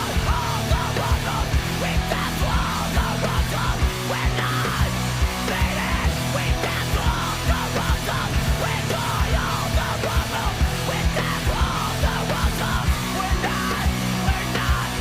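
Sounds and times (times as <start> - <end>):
heavy rock music: 0.0 - 15.0
shouted vocals: 0.0 - 15.0.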